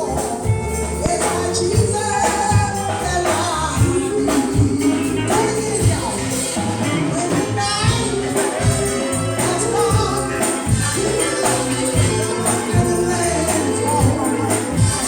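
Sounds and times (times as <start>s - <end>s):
band with bass and drums: 0.0s - 15.0s
voices singing gospel: 0.0s - 15.0s.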